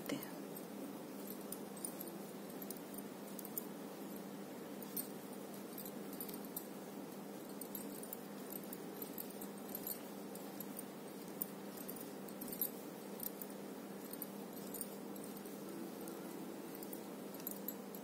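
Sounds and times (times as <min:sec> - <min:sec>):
metal bangles clinking: 0:00.0 - 0:18.0
steady low hum: 0:00.0 - 0:18.0.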